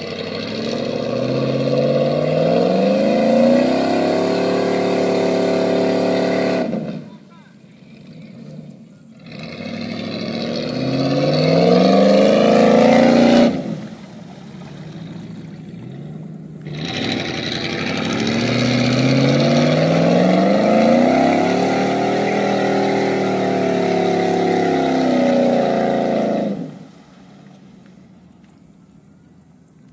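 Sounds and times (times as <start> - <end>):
pickup engine revving hard: 0.0 - 7.2, 7.8 - 14.0, 14.6 - 27.0.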